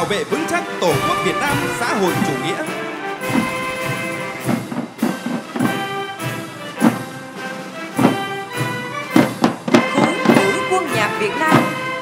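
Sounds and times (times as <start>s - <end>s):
brass chords: 0.0s - 12.0s
drum strokes: 0.0s - 12.0s.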